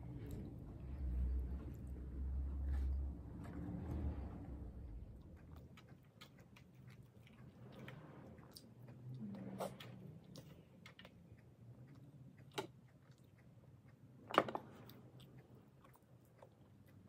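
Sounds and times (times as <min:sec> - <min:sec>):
faint steady hum: 0:00.0 - 0:17.0
soft chewing: 0:00.0 - 0:17.0.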